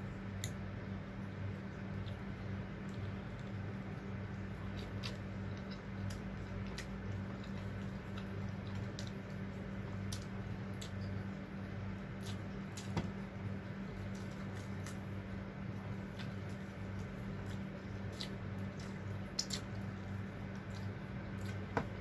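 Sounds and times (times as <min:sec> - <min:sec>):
low electrical hum: 0:00.0 - 0:22.0
person chewing food: 0:01.5 - 0:22.0.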